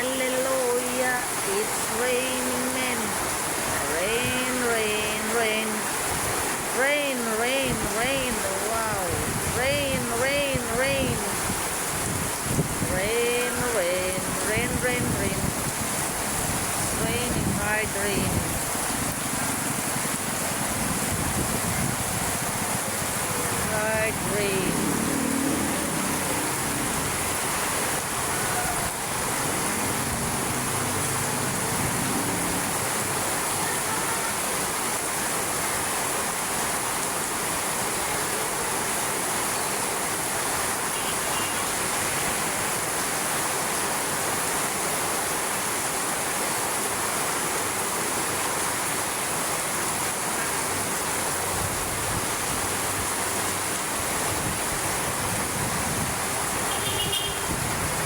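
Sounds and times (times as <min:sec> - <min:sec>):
hard rain falling: 0:00.0 - 0:58.0.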